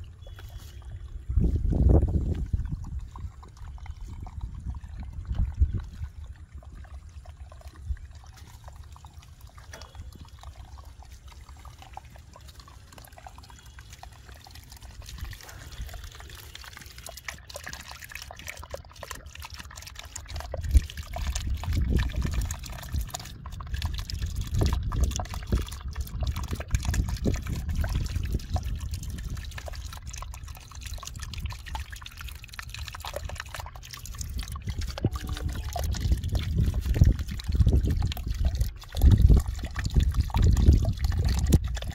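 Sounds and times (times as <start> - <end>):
muddy water splashing and trickling: 0.0 - 41.9.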